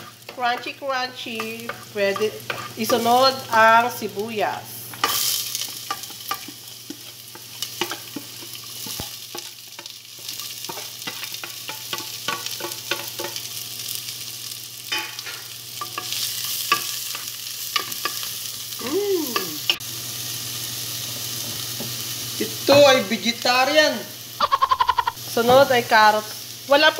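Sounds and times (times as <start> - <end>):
onion sizzling in hot oil: 0.0 - 26.9.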